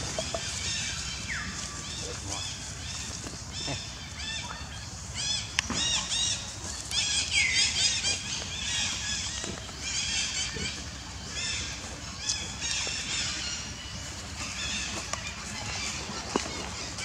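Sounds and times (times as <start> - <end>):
forest birds chirping: 0.0 - 17.0.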